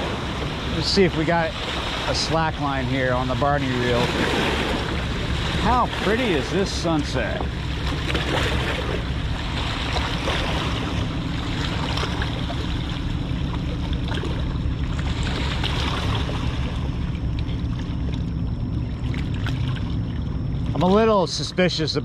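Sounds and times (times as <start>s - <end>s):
water lapping against rocks: 0.0s - 21.0s
ship engines droning: 0.0s - 22.0s.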